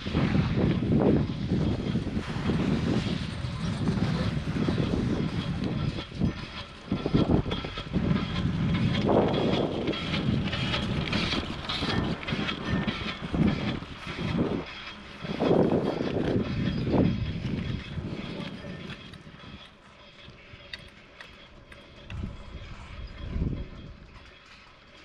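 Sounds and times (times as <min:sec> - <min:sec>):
chairlift rope rumbling clatter: 0:00.0 - 0:25.0.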